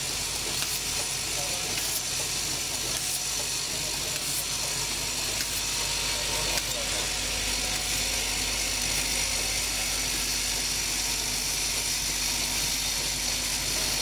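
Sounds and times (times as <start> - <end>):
assembly machine whirring: 0.0 - 14.0.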